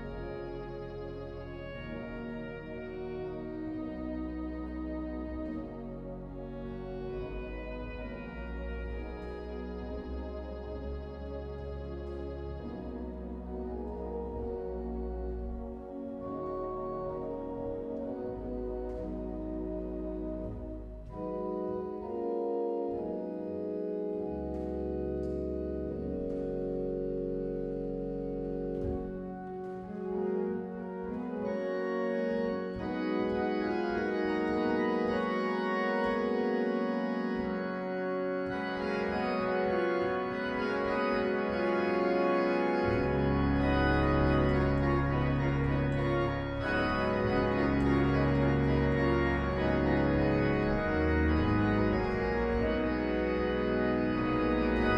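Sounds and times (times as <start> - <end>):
deep bass pedal notes: 0.0 - 54.9
organ playing chords: 0.0 - 54.9.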